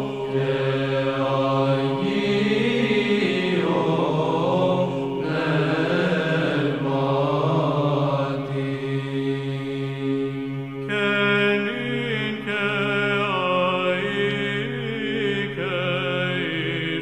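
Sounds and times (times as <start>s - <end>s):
voices chanting a slow melody: 0.0s - 17.0s.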